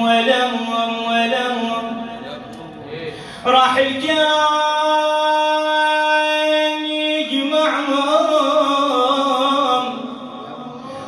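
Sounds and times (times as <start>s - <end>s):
man singing unaccompanied lament: 0.0s - 11.0s.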